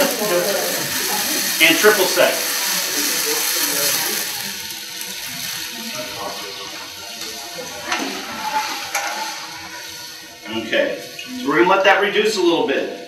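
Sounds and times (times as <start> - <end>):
sauce sizzling in a hot pan: 0.0 - 13.0.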